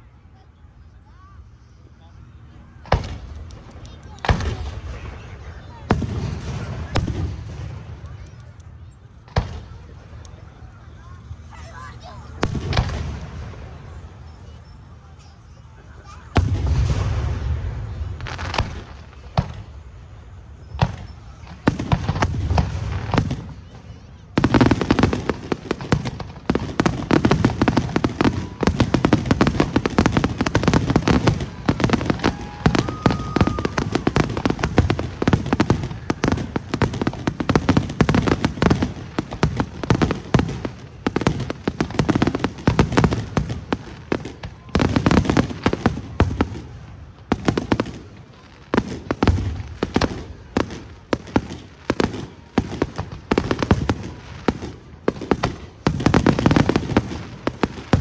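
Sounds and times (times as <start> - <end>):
fireworks cracking and booming: 2.8 - 10.4, 12.3 - 14.6, 16.0 - 58.0.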